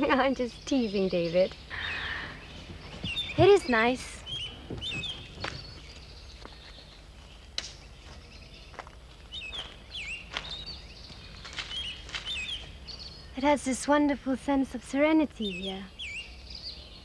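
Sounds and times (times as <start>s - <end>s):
birds whistling calls: 0.0s - 14.4s, 15.4s - 17.0s
low outdoor rumble: 0.0s - 17.0s.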